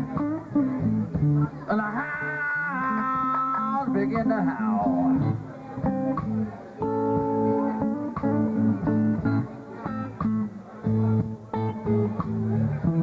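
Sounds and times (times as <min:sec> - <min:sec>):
bass guitar line: 0:00.0 - 0:13.0
electric guitar picking a lick: 0:00.0 - 0:13.0.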